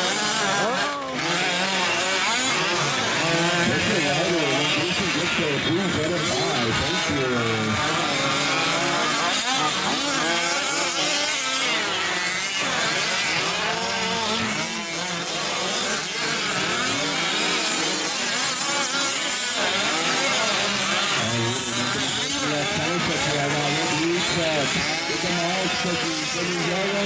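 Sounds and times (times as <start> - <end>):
small two-stroke engines revving: 0.0 - 27.0.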